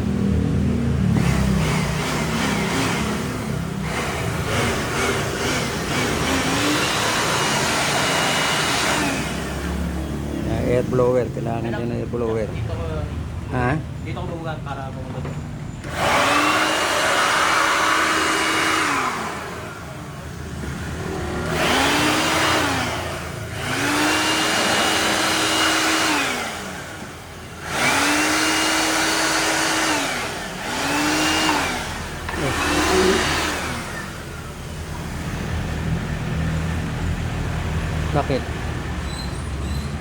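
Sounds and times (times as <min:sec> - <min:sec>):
electric air blower whining: 0:01.0 - 0:11.8, 0:15.8 - 0:38.4.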